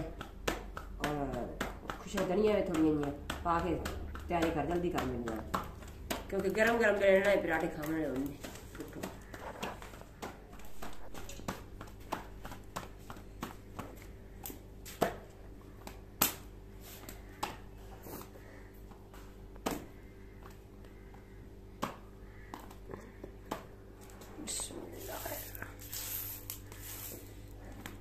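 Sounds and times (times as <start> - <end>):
hands slapping dough: 0.0 - 21.1, 21.7 - 28.0.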